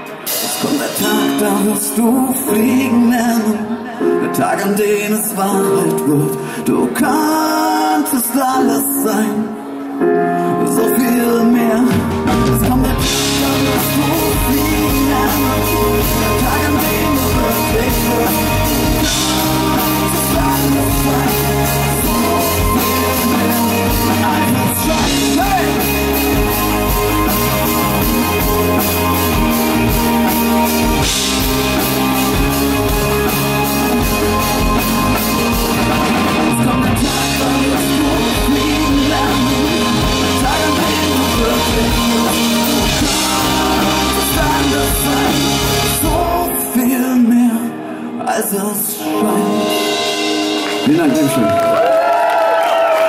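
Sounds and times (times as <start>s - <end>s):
man singing: 0.0s - 30.0s, 30.8s - 51.6s
rock band playing: 0.0s - 53.0s.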